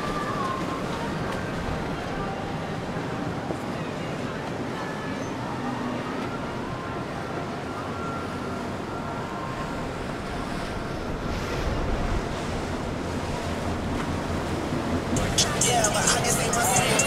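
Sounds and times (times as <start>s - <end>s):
low rumble of boat engines: 0.0s - 17.0s.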